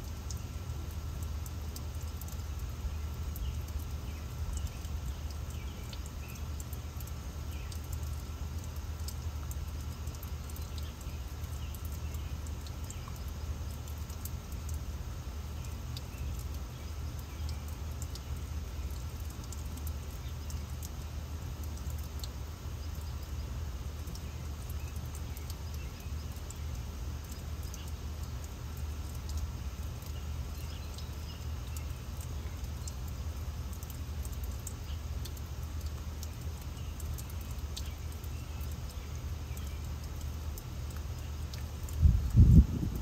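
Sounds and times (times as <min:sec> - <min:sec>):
low continuous rumble: 0:00.0 - 0:43.0
water fountain running: 0:00.0 - 0:43.0.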